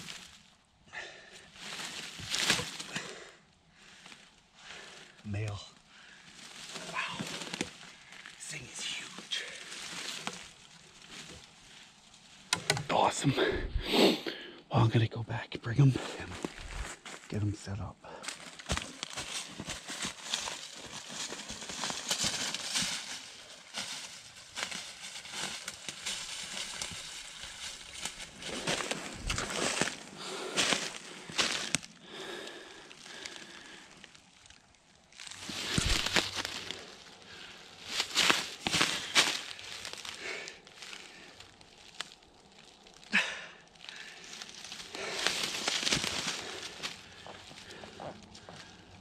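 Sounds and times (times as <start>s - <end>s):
footsteps crunching dry leaves: 1.5s - 3.0s, 6.0s - 12.4s, 16.3s - 17.3s, 18.2s - 49.0s.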